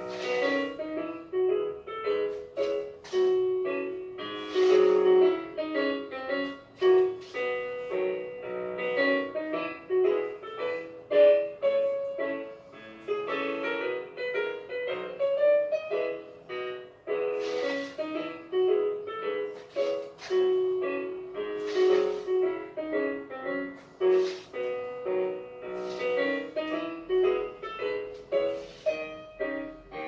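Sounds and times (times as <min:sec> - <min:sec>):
solo piano melody over chords: 0:00.0 - 0:30.0.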